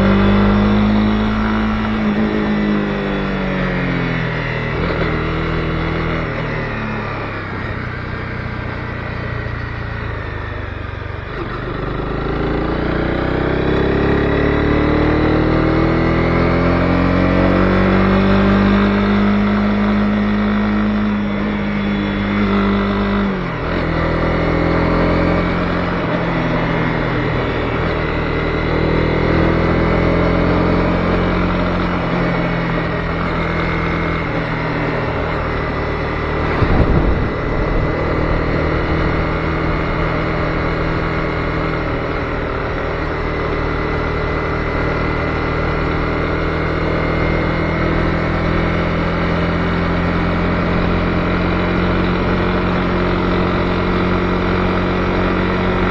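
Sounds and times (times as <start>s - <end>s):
motorcycle engine revving: 0.0s - 55.9s
wind and road noise: 0.0s - 55.9s.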